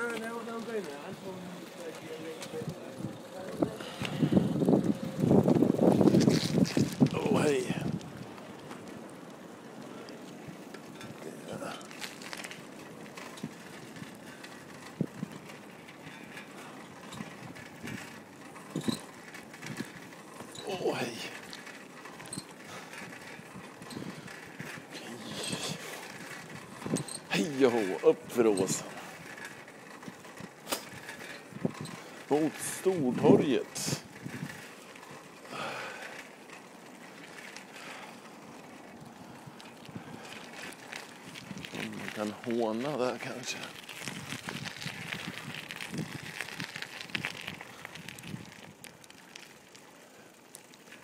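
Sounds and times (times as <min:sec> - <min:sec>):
bicycle tyres rumbling on pavement: 0:00.0 - 0:51.0.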